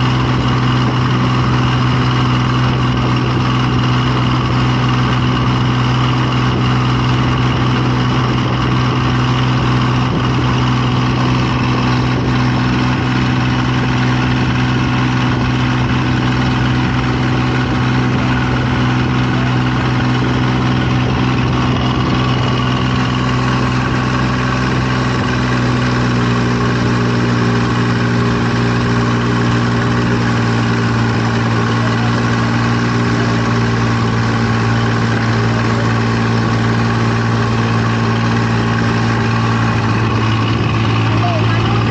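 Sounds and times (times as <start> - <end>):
engine running loud: 0.0 - 41.9.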